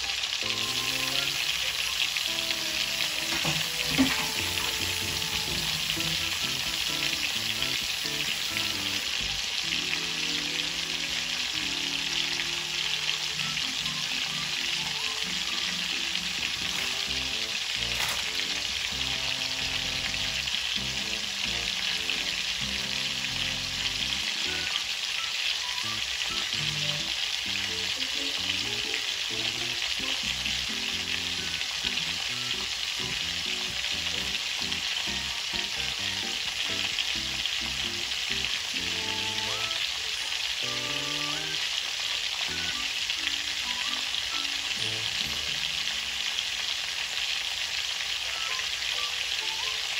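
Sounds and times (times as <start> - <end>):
chicken sizzling in oil: 0.0 - 49.9.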